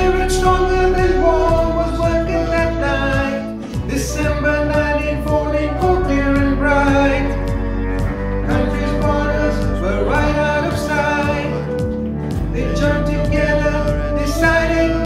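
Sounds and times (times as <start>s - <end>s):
steady drum beat: 0.0s - 14.7s
band playing: 0.0s - 15.0s
people singing: 0.0s - 15.0s.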